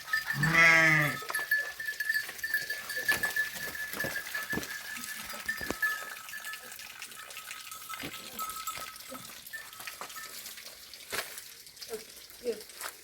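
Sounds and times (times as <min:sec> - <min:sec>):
steady high ringing: 0:00.0 - 0:10.5
sheep and goats moving: 0:00.0 - 0:13.0.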